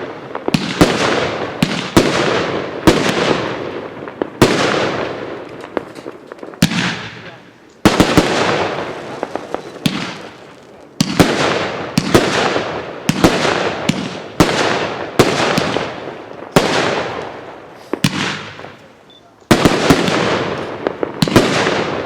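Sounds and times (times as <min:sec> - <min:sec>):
firework bangs: 0:00.0 - 0:22.0
hiss and crackle of firework stars: 0:00.0 - 0:22.0.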